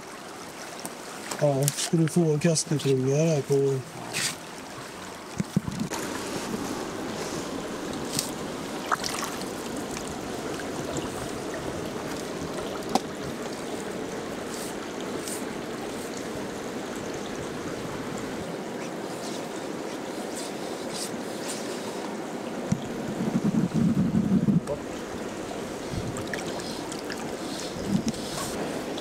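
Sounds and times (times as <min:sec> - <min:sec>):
river water flowing: 0:00.0 - 0:23.3, 0:24.8 - 0:29.0.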